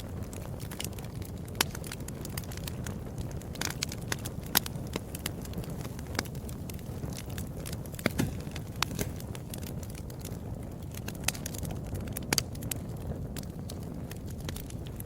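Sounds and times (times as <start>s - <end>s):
fireplace fire crackling: 0.0s - 15.0s
low steady rumble: 0.0s - 15.0s
sharp pops of fire: 0.0s - 15.0s.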